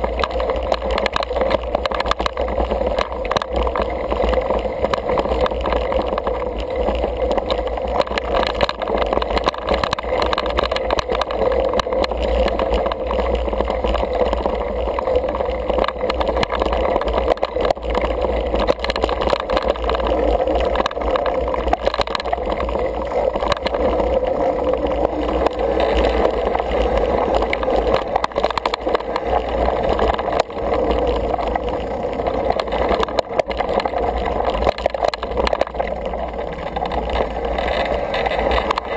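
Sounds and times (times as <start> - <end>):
bike knocks and rattles: 0.0 - 38.9
tyres rumbling over dirt: 0.0 - 38.9.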